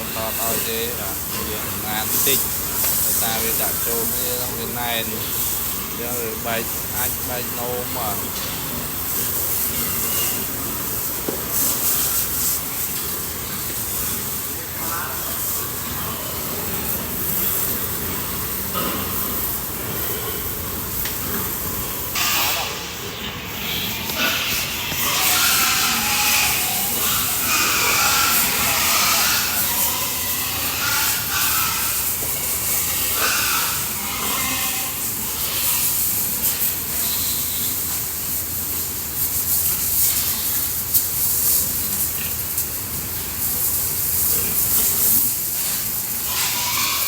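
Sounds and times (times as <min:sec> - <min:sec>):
water spraying from a hose: 0:00.0 - 0:47.0.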